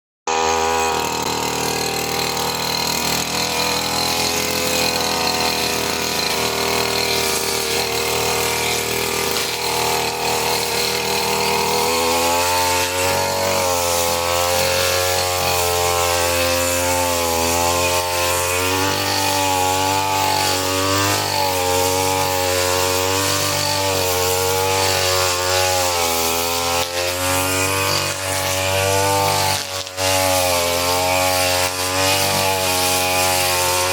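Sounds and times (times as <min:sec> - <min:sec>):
brushcutter engine revving: 0:00.3 - 0:33.9.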